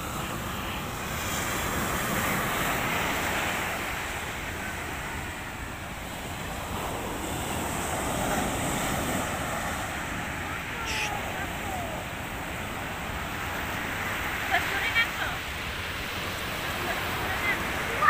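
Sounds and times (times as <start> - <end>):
surf washing onto beach: 0.0 - 18.0.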